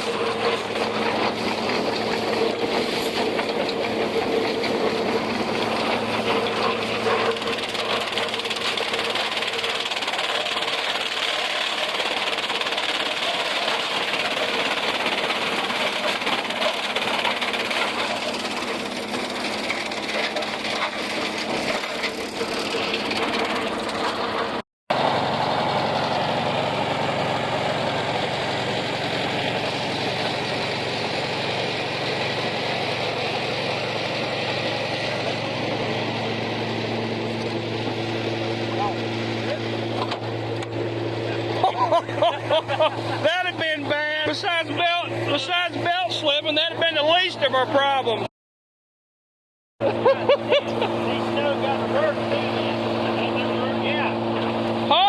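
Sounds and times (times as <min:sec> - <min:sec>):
tractor engine running: 0:00.0 - 0:48.3, 0:49.8 - 0:55.0.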